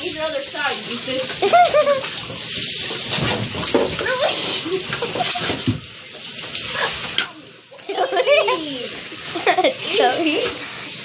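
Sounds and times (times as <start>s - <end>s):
shower spray splashing: 0.0s - 11.0s.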